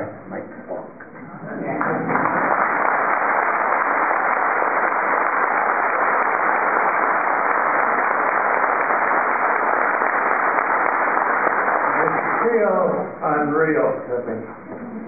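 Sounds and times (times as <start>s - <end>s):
audience applauding: 1.7s - 13.9s.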